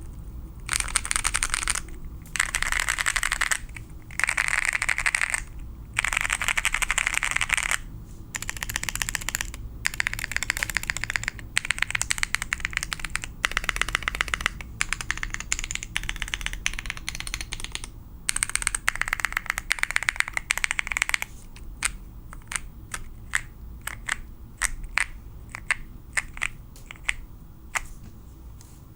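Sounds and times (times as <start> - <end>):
mechanical keyboard typing: 0.6 - 27.9.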